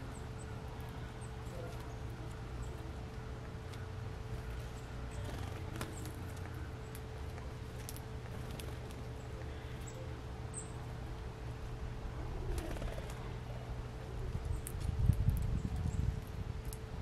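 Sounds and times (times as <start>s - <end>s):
birds pecking and cracking seeds: 0.0s - 17.0s
steady low hum: 0.0s - 17.0s.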